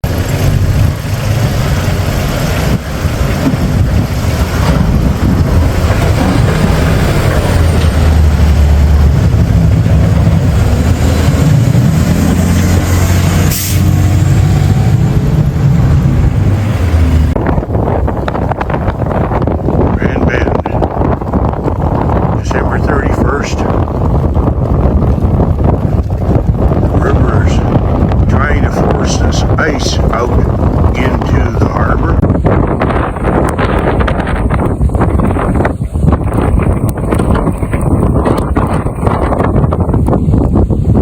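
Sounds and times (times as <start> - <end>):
heavy vehicle engine running: 0.0 - 41.0
steady rushing noise: 0.0 - 41.0.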